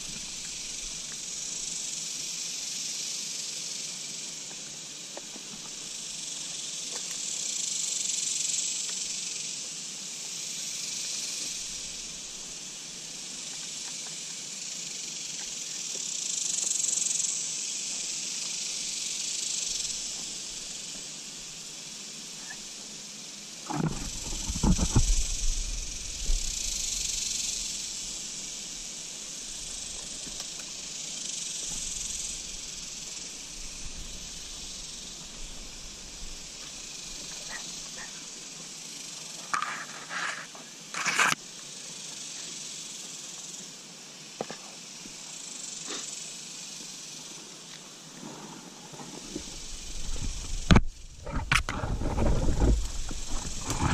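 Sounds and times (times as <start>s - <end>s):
insect chorus hiss: 0.0s - 53.9s.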